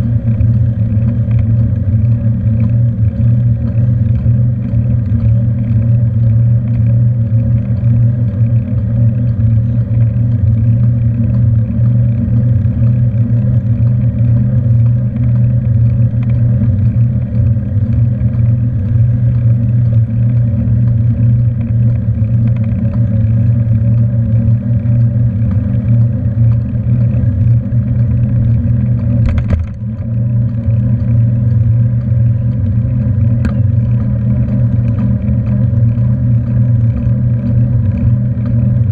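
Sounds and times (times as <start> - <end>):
wind buffeting and road rumble: 0.0 - 38.9.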